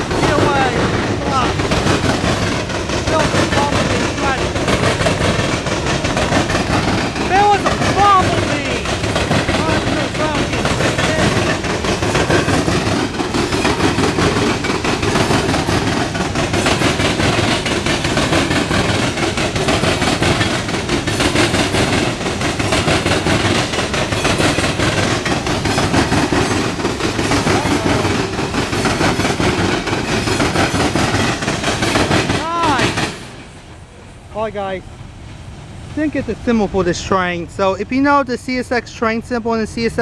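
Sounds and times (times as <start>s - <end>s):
freight train wheels rumbling on rails: 0.0s - 40.0s.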